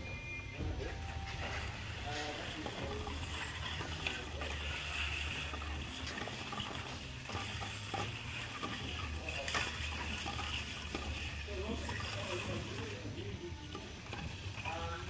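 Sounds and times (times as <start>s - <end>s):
turntable humming: 0.0s - 15.0s.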